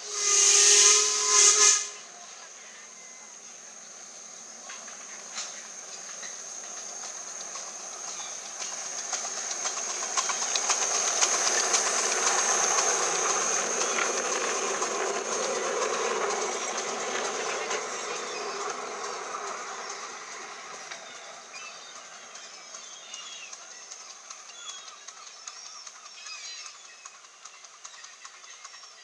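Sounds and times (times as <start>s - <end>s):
hissing steam: 0.0s - 25.9s
steam locomotive passing: 0.0s - 29.0s
wheels clicking on rails: 4.4s - 29.0s.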